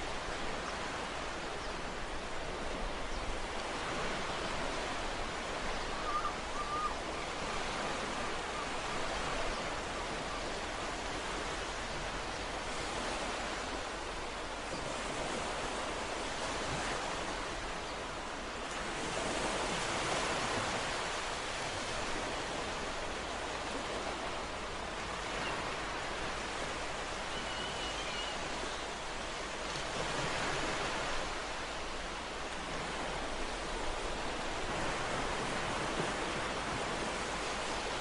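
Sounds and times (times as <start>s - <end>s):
ocean waves washing: 0.0s - 38.0s.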